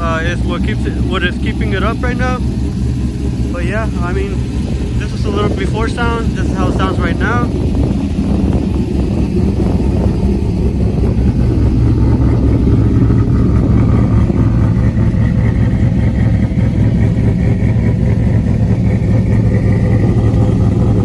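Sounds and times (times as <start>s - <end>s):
loud engine idling: 0.0s - 21.0s.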